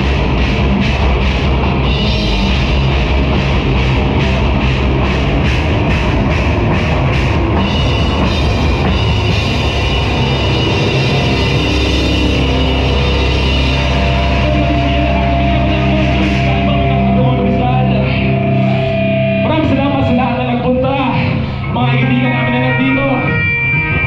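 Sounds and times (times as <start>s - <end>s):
cymbal-heavy drumming: 0.0s - 21.5s
heavy metal band playing: 0.0s - 24.0s
ringing guitar chords: 0.0s - 24.0s.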